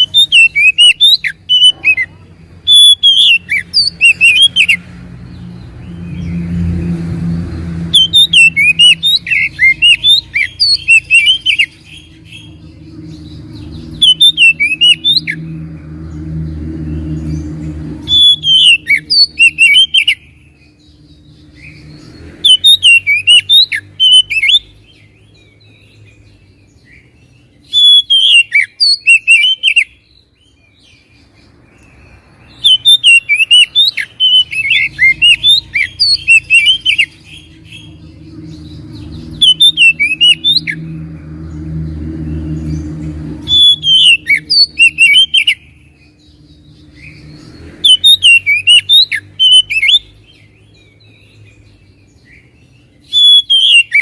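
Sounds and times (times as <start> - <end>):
bird singing chirps and whistles: 0.0 - 54.0.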